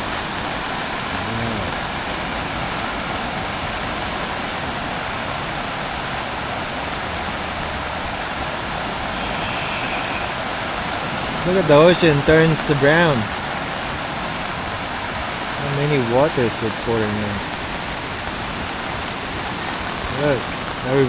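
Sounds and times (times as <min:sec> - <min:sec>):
floodwater running through street: 0:00.0 - 0:21.0
heavy rain: 0:00.0 - 0:21.0.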